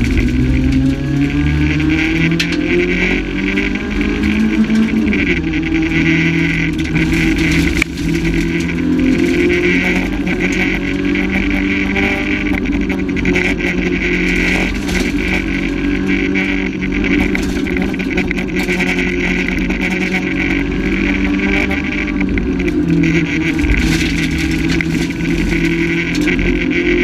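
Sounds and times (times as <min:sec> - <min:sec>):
rally car engine at high revs: 0:00.0 - 0:27.0
road and tyre noise: 0:00.0 - 0:27.0.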